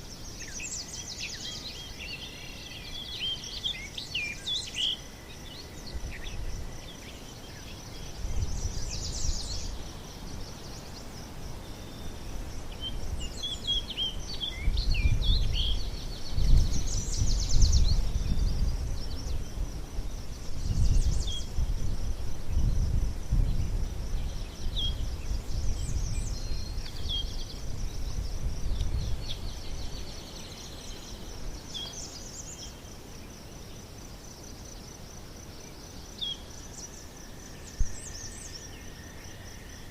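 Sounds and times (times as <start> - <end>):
high insect trill: 0.0 - 39.9
songbirds chirping: 0.0 - 39.9.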